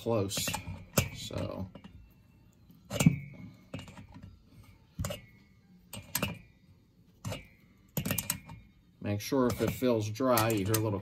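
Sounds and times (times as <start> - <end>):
wrench clinking on metal: 0.0 - 2.0, 2.9 - 4.4, 5.0 - 11.0.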